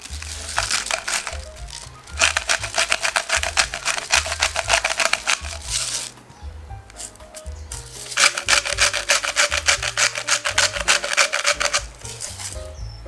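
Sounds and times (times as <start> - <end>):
pepper grinder clicking: 0.0 - 6.1, 8.0 - 12.6
background music with bass: 0.0 - 13.0.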